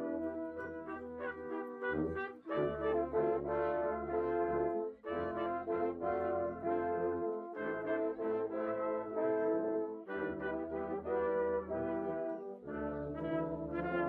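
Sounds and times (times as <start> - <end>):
brass instrumental music: 0.0 - 14.0.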